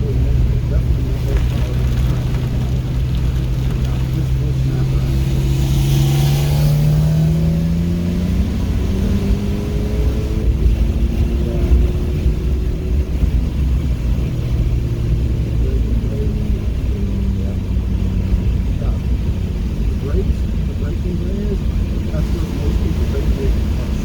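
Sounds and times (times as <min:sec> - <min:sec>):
car engine pulling: 0:00.0 - 0:24.0
tyres rumbling on road: 0:00.0 - 0:24.0.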